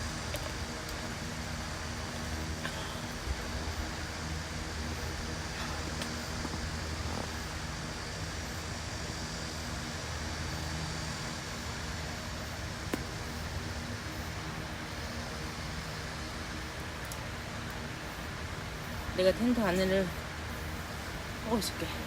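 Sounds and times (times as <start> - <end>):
even hiss: 0.0 - 22.0
low machine hum: 0.0 - 22.0.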